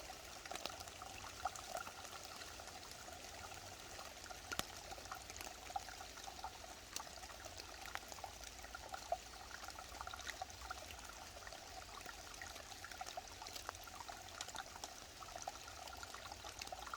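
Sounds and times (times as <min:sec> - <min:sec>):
stream flowing and burbling: 0:00.0 - 0:16.9.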